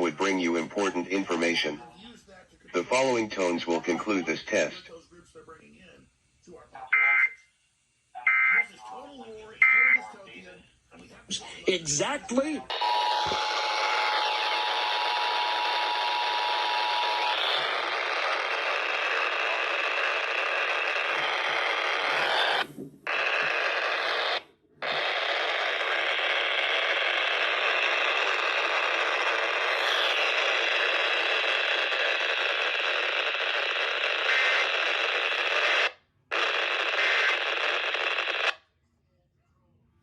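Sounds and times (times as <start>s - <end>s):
radio static hiss: 0.0s - 5.9s, 11.3s - 38.6s.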